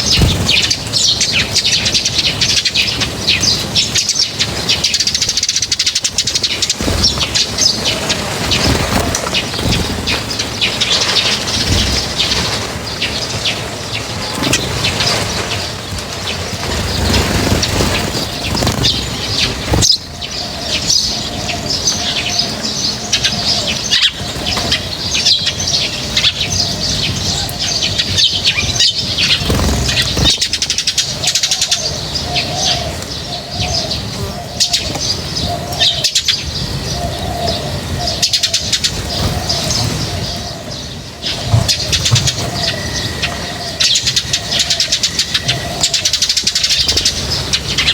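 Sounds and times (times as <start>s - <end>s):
wings flapping: 0.0s - 22.6s, 23.3s - 31.8s, 37.7s - 40.5s, 41.2s - 47.9s
small birds chirping: 0.0s - 47.9s.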